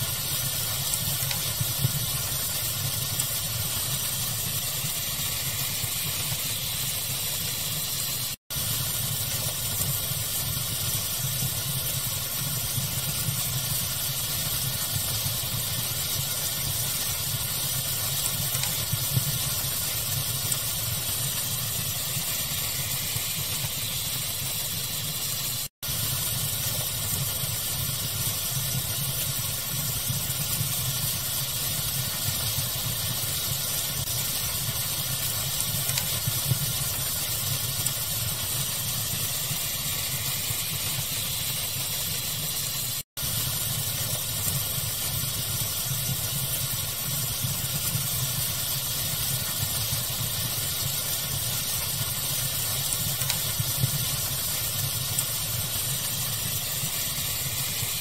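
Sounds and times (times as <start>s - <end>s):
fire crackle pops: 0.0s - 58.0s
pink noise hiss: 0.0s - 58.0s.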